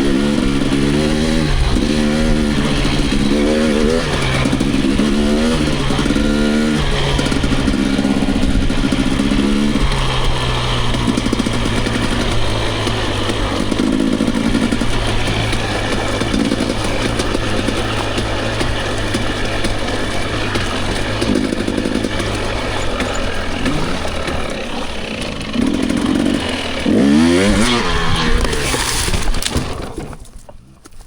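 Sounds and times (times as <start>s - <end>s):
dirt bike engine revving: 0.0s - 30.2s.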